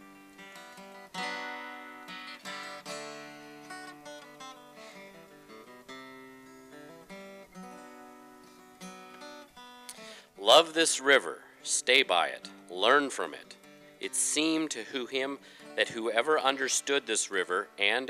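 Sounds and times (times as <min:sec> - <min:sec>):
acoustic guitar plucking and strumming: 0:00.0 - 0:18.0.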